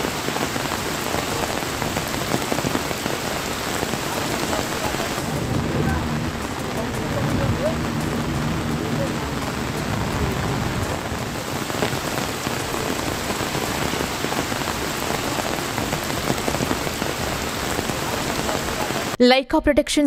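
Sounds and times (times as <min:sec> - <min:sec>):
heavy rain falling: 0:00.0 - 0:19.2.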